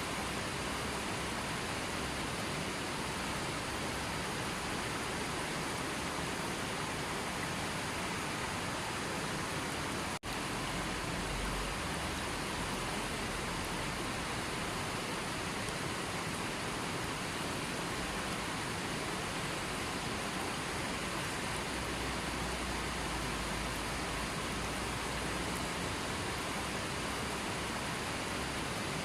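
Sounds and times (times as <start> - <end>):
hiss of falling water: 0.0 - 29.0.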